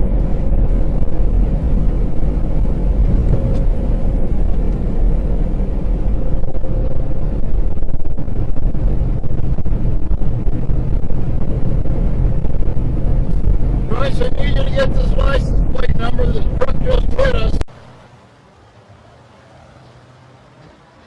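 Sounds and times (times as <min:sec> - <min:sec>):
moving vehicle rumble: 0:00.0 - 0:21.0.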